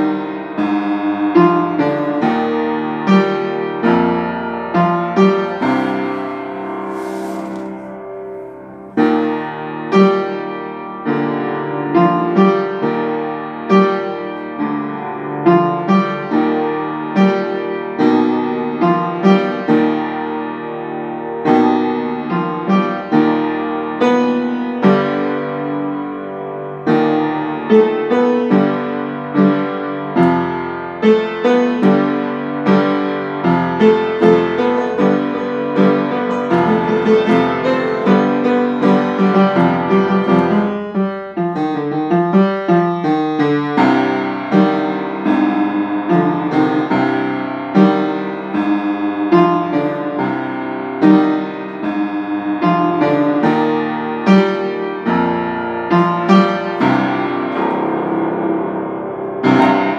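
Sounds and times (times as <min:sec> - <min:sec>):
solo upright piano: 0:00.0 - 0:59.9.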